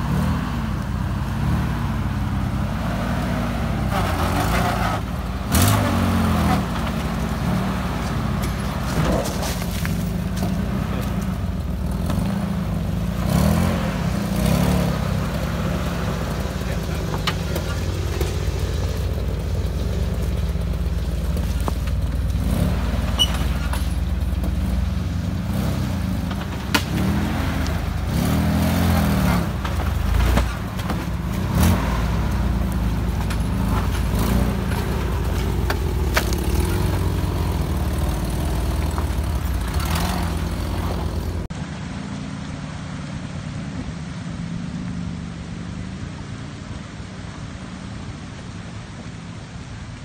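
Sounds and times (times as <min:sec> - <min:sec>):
truck engine revving: 0:00.0 - 0:41.6
water rushing: 0:01.4 - 0:50.0.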